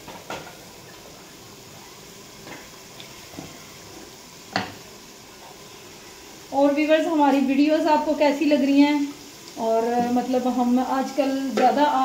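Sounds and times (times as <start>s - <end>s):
sauce sizzling and bubbling in a pot: 0.0s - 12.0s.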